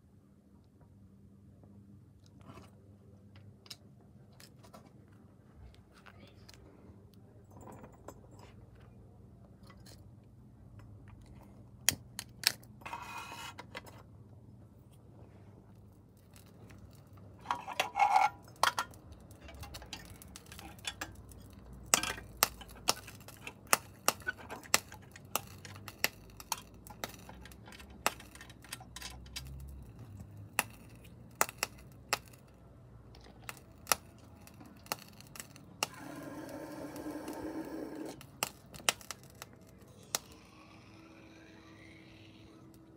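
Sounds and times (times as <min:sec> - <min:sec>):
faint low hum: 0:00.0 - 0:42.9.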